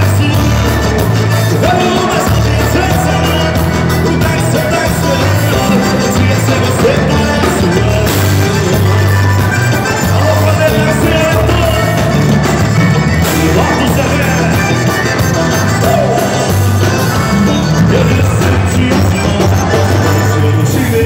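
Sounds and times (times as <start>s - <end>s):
accordion: 0.0s - 21.0s
drums: 0.0s - 21.0s
electric guitars: 0.0s - 21.0s
man singing: 0.0s - 21.0s.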